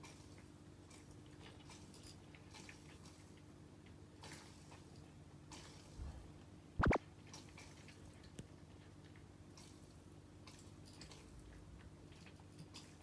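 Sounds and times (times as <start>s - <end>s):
cat chewing food: 0.0s - 6.0s, 7.1s - 13.0s.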